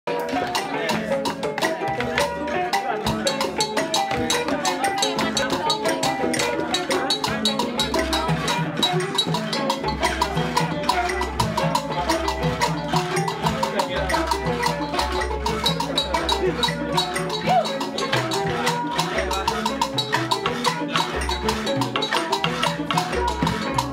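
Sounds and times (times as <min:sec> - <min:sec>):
bamboo and wooden percussion ensemble: 0:00.1 - 0:23.9.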